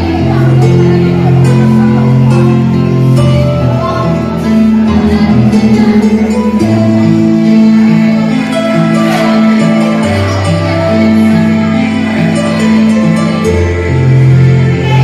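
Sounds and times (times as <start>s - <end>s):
recorded backing music: 0.0s - 15.0s.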